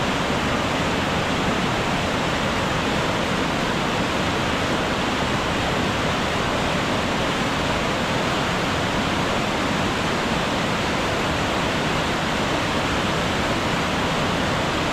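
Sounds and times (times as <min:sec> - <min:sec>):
waterfall rushing over rocks: 0:00.0 - 0:14.9.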